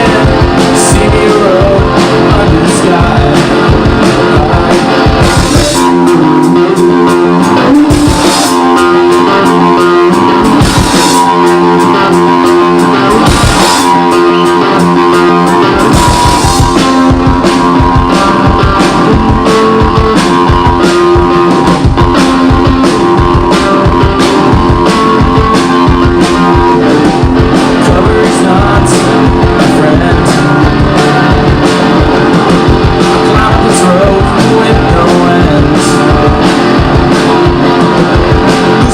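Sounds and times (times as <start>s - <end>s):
electric guitar ringing: 0.0s - 38.9s
live rock band playing: 0.0s - 38.9s.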